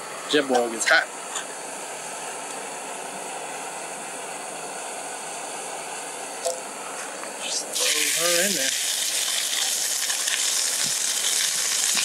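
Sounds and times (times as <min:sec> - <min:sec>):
gas stove hissing: 0:00.0 - 0:12.0.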